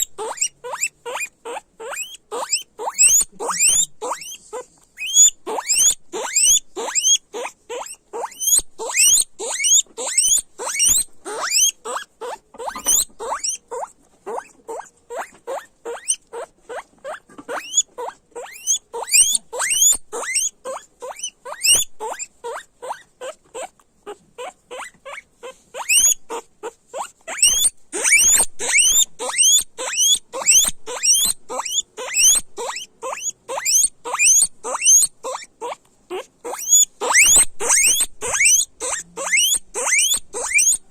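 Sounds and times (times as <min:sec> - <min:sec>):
guinea pigs squealing: 0:00.0 - 0:40.9.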